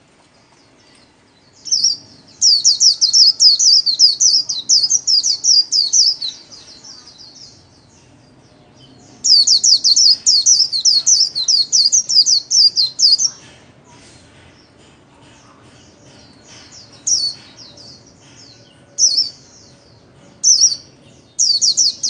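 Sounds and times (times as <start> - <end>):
bird warbling song: 0.4 - 22.0.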